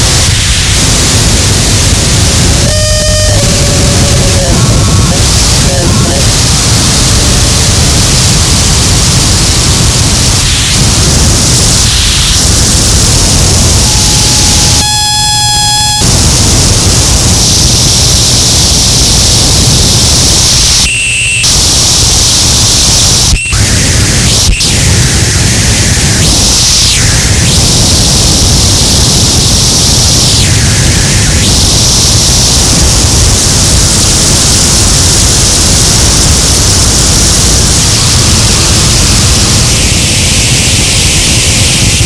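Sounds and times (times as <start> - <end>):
buzzing tone: 0.0 - 42.0
distorted noise wall: 0.0 - 42.0.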